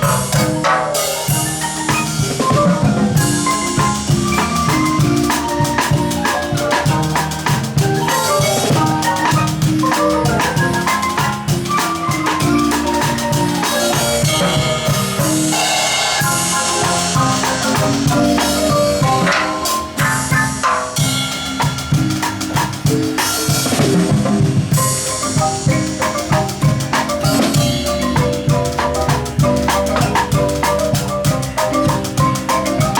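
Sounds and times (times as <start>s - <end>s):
marimba mallet notes: 0.0s - 32.9s
steady drum beat: 0.0s - 32.9s.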